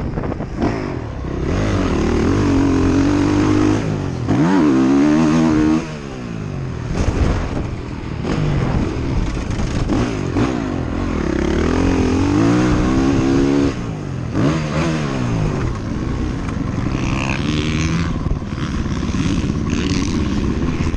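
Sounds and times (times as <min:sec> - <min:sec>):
off-road vehicle engine revving: 0:00.3 - 0:07.6, 0:08.2 - 0:20.9.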